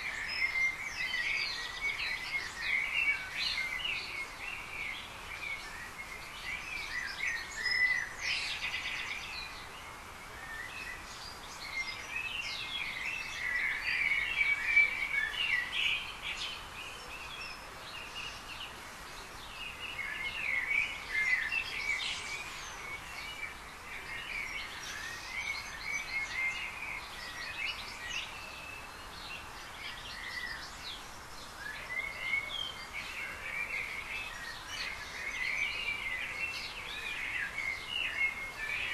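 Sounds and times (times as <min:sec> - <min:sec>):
background hiss: 0:00.0 - 0:38.9
birds singing and chirping: 0:00.0 - 0:38.9.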